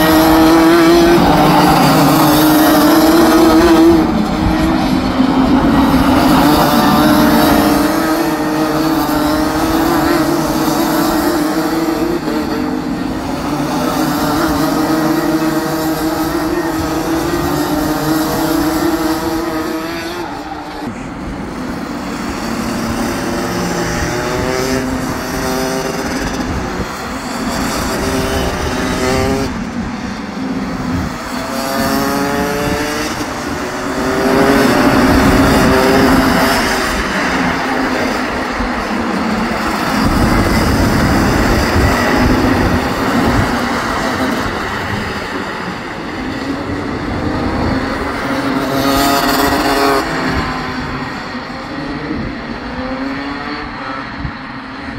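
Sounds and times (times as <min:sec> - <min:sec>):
racing kart engines buzzing: 0:00.0 - 0:54.9.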